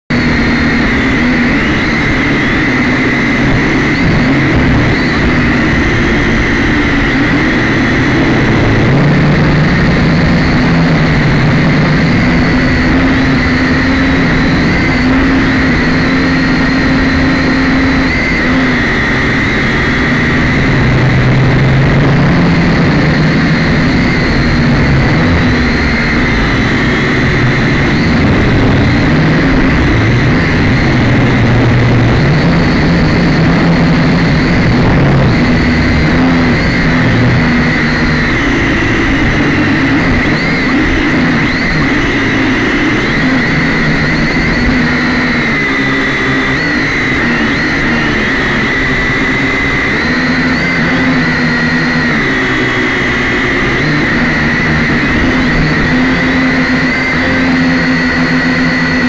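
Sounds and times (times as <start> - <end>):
drone motors buzzing whine: 0.0 - 59.0.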